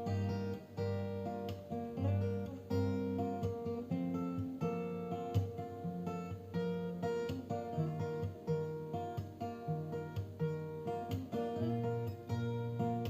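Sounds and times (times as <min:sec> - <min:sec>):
plucked guitar: 0:00.0 - 0:13.0.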